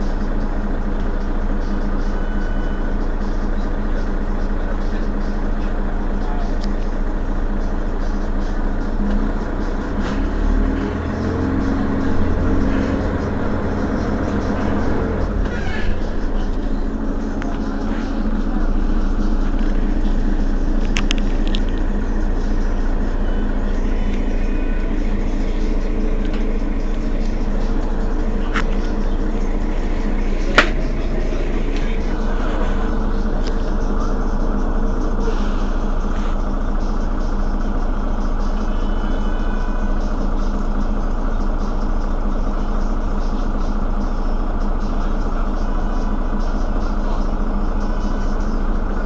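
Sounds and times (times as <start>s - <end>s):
bus engine idling: 0.0s - 49.0s.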